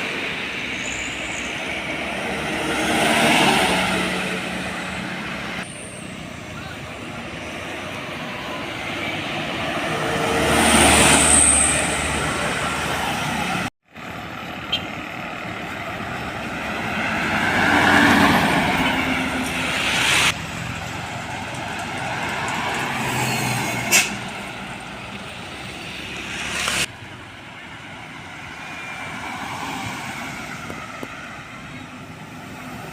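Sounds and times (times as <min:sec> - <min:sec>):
heavy trucks passing: 0:00.0 - 0:32.9.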